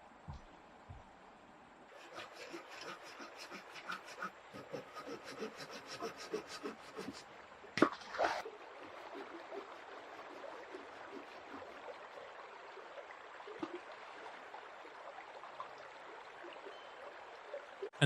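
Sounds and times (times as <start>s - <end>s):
forest stream running: 1.9s - 18.0s.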